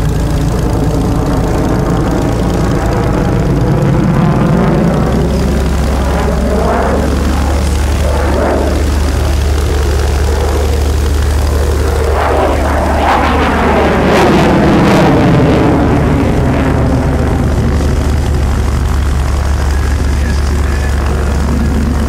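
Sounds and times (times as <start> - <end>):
fighter jet afterburner rumble: 0.0 - 22.0.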